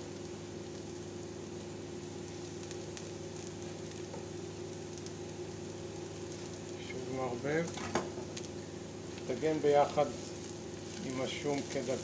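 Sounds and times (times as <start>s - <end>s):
onions frying in oil: 0.0s - 12.0s
steady low hum: 0.0s - 12.0s
faint crackles: 0.1s - 12.0s.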